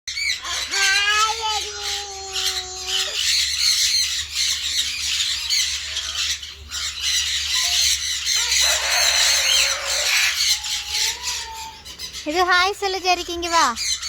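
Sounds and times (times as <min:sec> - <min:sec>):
parrot squawking and chattering: 0:00.1 - 0:14.0.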